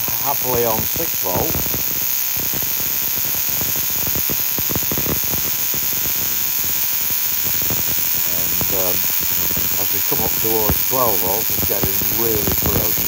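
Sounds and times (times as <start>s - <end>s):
crackling spark buzz: 0.0s - 13.0s.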